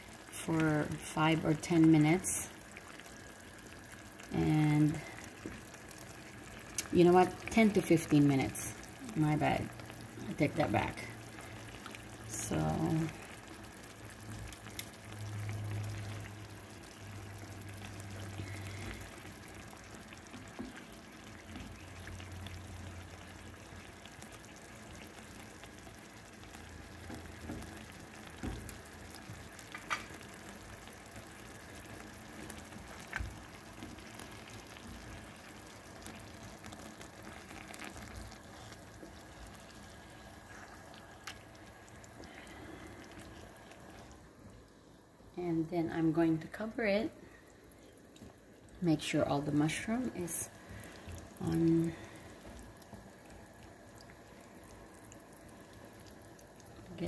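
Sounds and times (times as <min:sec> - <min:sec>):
food sizzling in a pan: 0:00.0 - 0:45.3, 0:45.9 - 0:57.0.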